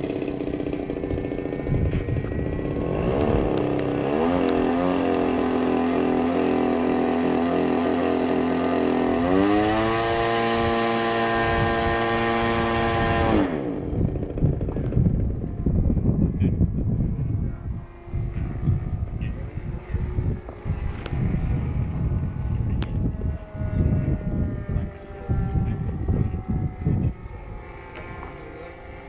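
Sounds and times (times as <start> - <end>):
model airplane engine running: 0.0 - 29.0.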